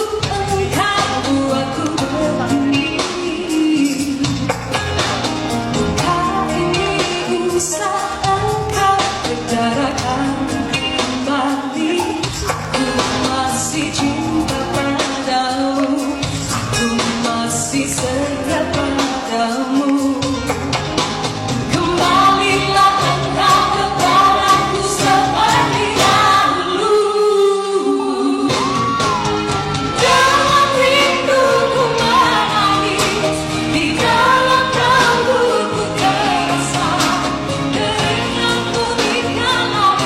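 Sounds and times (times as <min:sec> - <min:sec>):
band accompaniment: 0:00.0 - 0:27.8, 0:28.4 - 0:40.0
woman singing pop song: 0:00.0 - 0:40.0.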